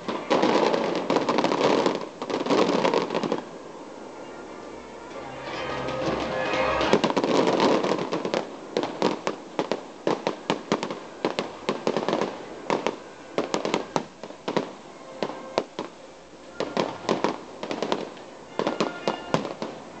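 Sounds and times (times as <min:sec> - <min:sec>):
fireworks bangs and crackles: 0:00.0 - 0:03.7, 0:05.3 - 0:20.0.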